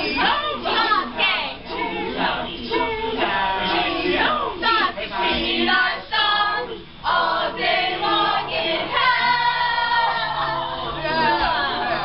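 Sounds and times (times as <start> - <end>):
voices singing a chant: 0.0 - 12.0.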